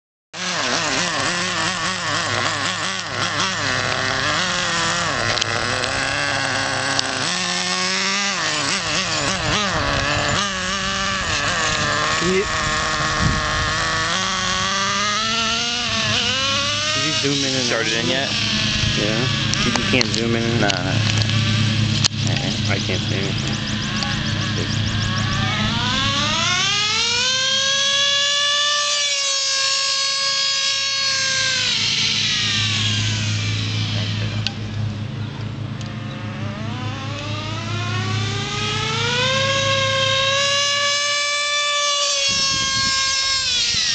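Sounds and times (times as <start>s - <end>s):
model engine revving: 0.4s - 43.9s.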